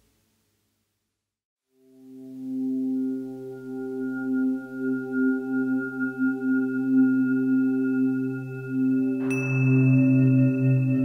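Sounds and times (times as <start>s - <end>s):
ambient music sustained tones: 1.7s - 11.0s.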